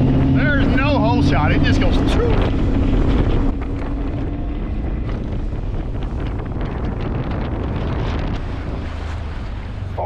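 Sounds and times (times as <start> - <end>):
outboard motor at high throttle: 0.0 - 10.0
water rushing past hull: 0.0 - 10.0
wind buffeting microphone: 0.0 - 10.0.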